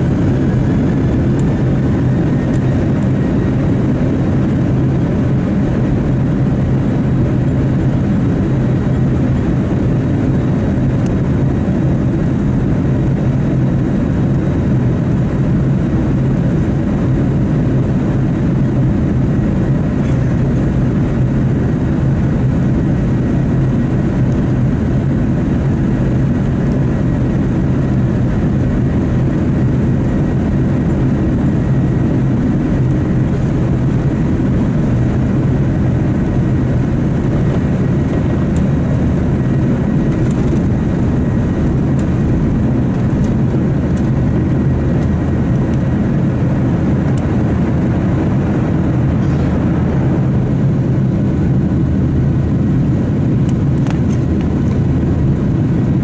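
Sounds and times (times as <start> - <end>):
jet engine rumble in cabin: 0.0 - 56.0
low hum: 0.0 - 56.0.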